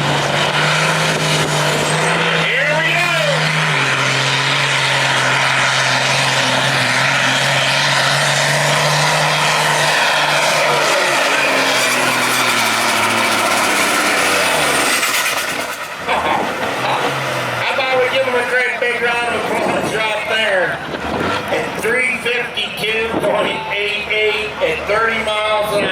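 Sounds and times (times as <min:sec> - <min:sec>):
engine running at high revs: 0:00.0 - 0:25.9.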